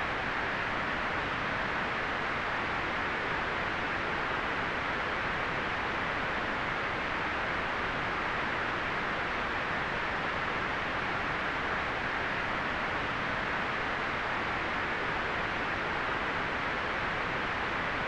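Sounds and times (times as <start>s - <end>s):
white noise hiss: 0.0s - 18.0s.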